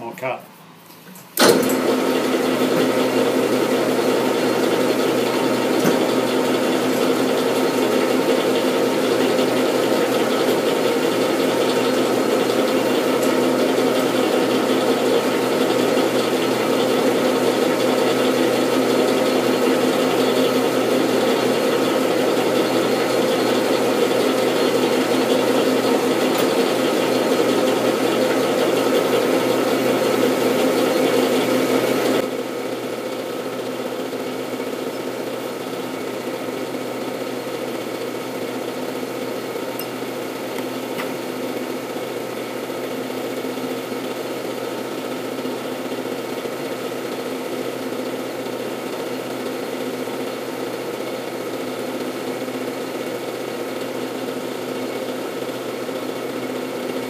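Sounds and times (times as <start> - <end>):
metal lathe whining: 1.4 - 49.8.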